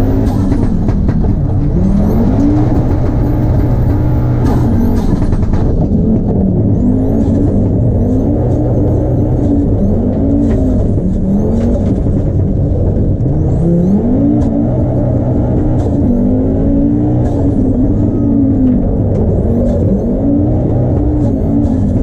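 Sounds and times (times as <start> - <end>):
rally car engine accelerating: 0.0 - 22.0.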